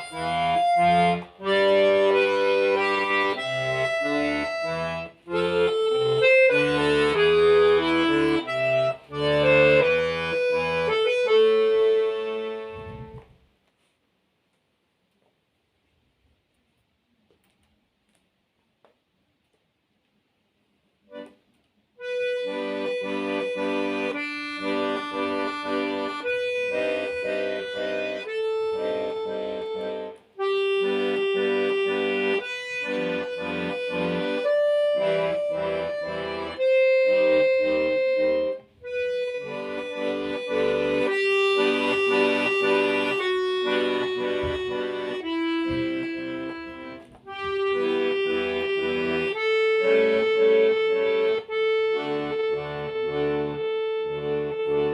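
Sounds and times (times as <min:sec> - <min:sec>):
button accordion melody: 0:00.0 - 0:13.4, 0:21.1 - 0:21.4, 0:22.0 - 0:54.9.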